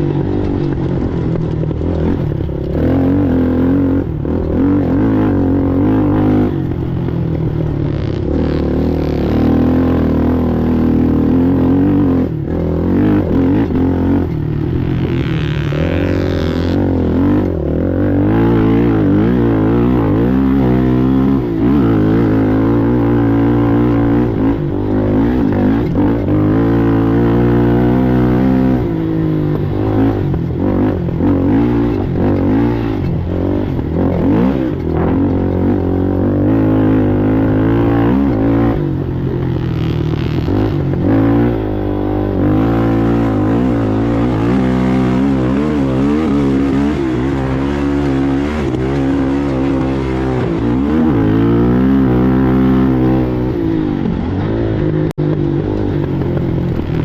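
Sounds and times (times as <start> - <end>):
atv engine running hard: 0.0 - 57.0.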